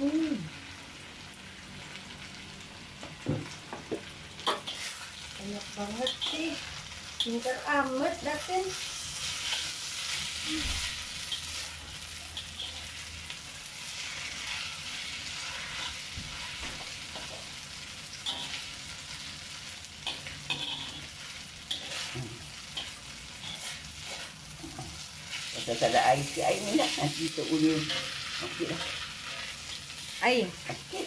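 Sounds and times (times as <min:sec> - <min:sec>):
noodles sizzling in a wok: 0:00.0 - 0:31.0
metal spatula scraping a wok: 0:04.4 - 0:17.6, 0:18.2 - 0:19.2, 0:19.9 - 0:31.0.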